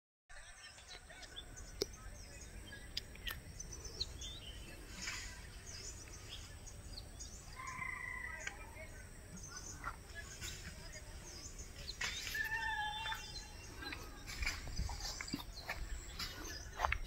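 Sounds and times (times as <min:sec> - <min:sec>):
birds chirping: 0:00.3 - 0:17.0.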